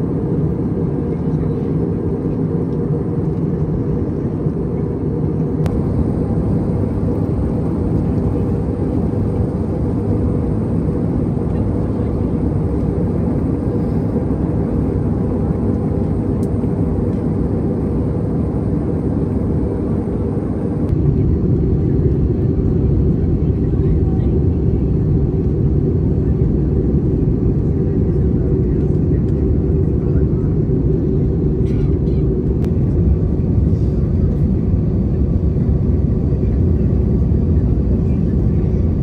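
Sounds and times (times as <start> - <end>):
airplane cabin engine rumble: 0.0 - 39.0.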